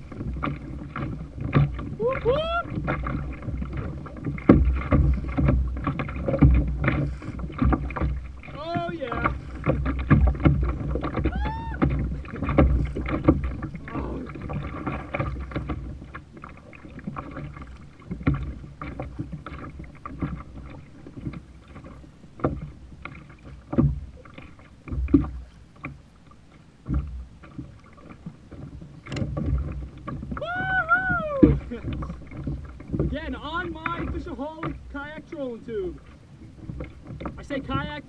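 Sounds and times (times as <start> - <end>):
waves slapping kayak hull: 0.0 - 38.0.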